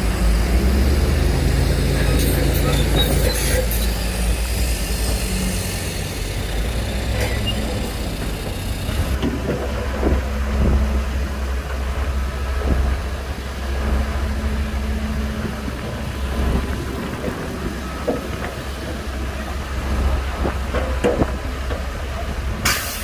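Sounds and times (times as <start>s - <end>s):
bulldozer diesel engine rumble: 0.0s - 23.0s.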